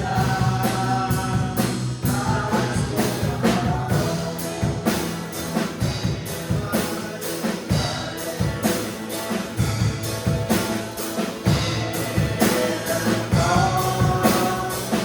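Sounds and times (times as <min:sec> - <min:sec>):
steady drum beat: 0:00.0 - 0:15.0
worship band music: 0:00.0 - 0:15.0.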